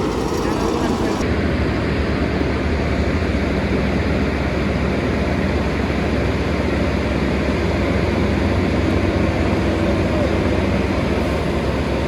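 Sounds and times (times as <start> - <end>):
vehicle rumble and hiss: 0.0 - 12.0.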